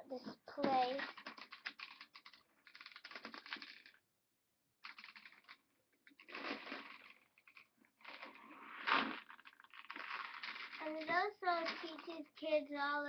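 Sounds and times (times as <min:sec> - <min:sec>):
faint rapid clicking and rattling: 0:00.6 - 0:04.0, 0:04.8 - 0:08.5, 0:09.1 - 0:13.0.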